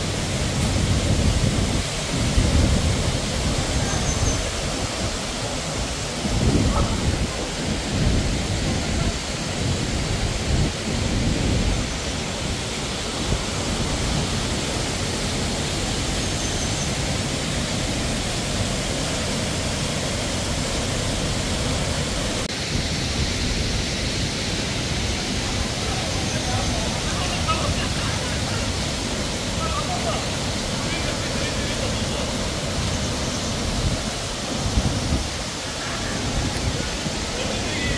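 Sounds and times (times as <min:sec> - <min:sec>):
waterfall roaring: 0:00.0 - 0:37.9.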